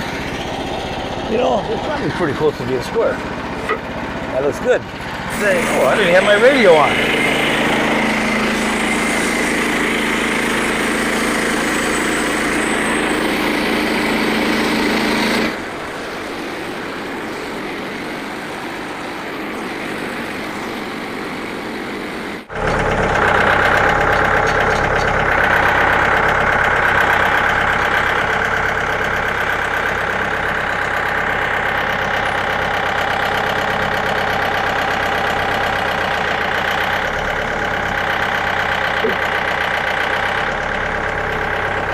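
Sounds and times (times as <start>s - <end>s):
small gas engine running: 0.0s - 41.9s.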